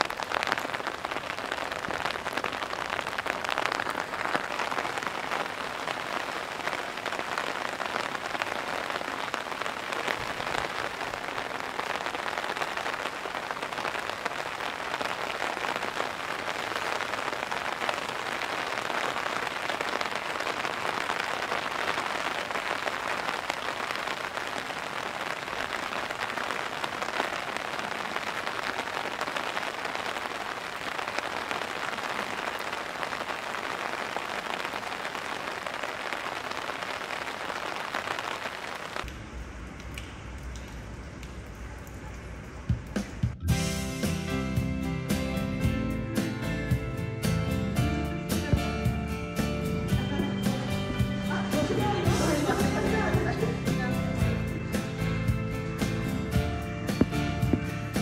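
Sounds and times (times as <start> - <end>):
heavy pouring rain: 0.0 - 58.0.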